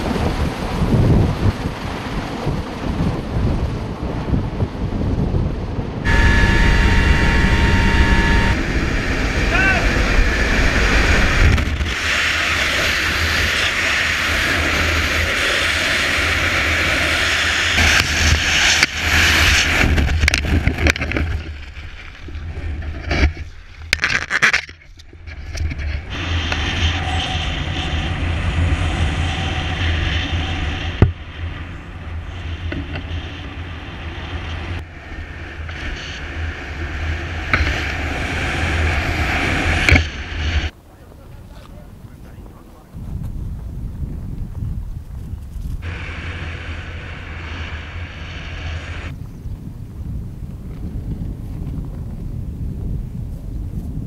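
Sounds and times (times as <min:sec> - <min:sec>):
wind buffeting microphone: 0:00.0 - 0:24.0, 0:25.1 - 0:54.0.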